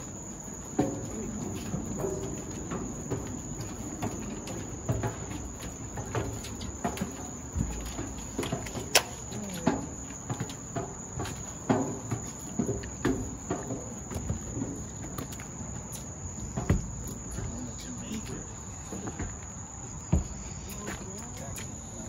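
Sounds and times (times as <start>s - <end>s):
footsteps on metal staircase: 0.0s - 22.0s
insects chirring: 0.0s - 22.0s.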